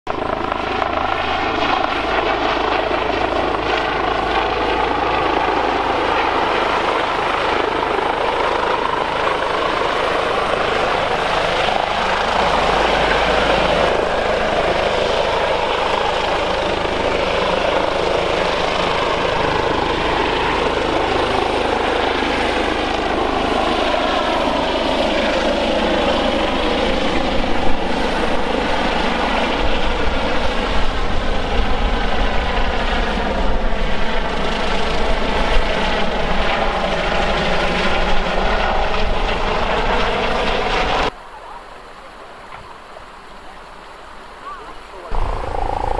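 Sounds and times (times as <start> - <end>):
helicopter turbine and rotors: 0.1 - 45.9.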